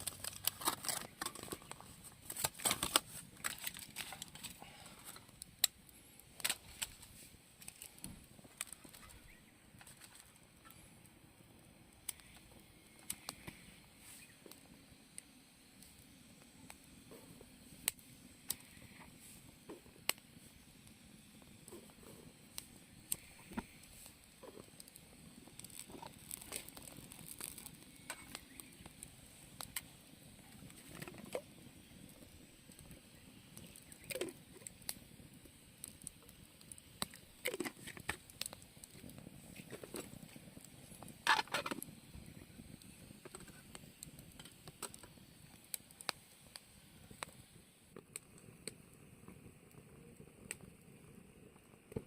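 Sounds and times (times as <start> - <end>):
campfire crackling: 0.0 - 52.0
sharp pops from fire: 0.0 - 52.0.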